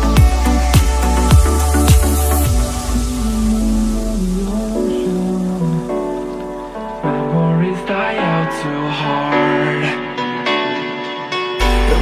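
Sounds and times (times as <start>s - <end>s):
background song: 0.0s - 12.0s.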